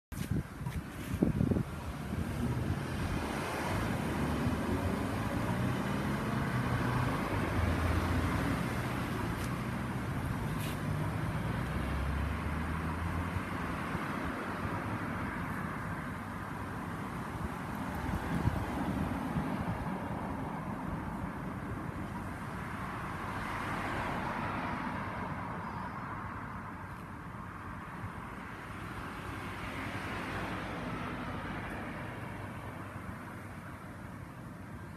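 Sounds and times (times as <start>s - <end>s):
cars driving past: 1.0s - 33.8s.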